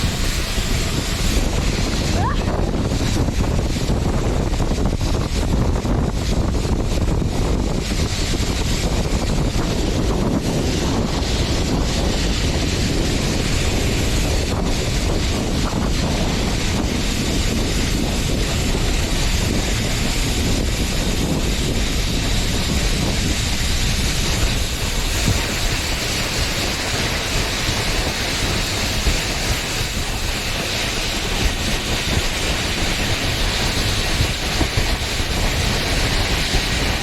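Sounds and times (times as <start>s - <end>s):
snow tubes sliding on snow: 0.0s - 37.0s
wind buffeting microphone: 0.0s - 37.0s.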